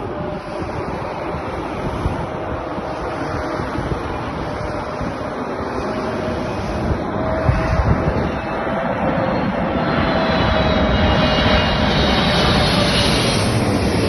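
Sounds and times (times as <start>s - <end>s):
aircraft engine and airflow noise: 0.0s - 14.0s.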